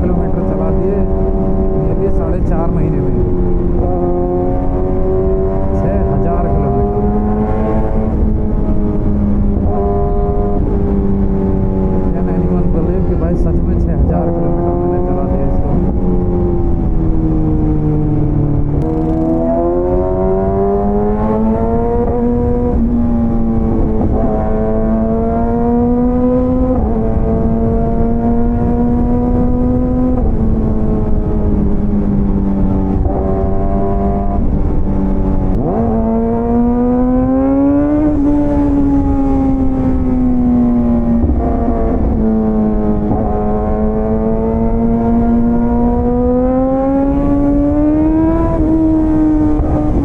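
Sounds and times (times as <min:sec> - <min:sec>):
motorcycle engine shifting gears: 0:00.0 - 0:50.0
wind and road noise: 0:00.0 - 0:50.0.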